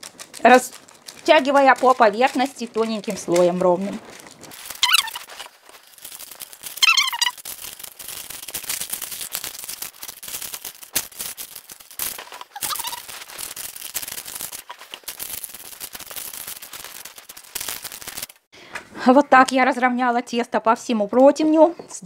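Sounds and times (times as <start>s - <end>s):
parchment crackling in metal tray: 0.0s - 18.5s.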